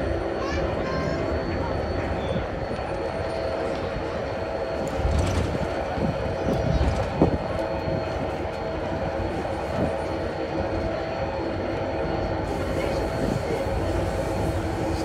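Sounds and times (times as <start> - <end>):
transfer table motor hum and rumble: 0.0 - 15.0.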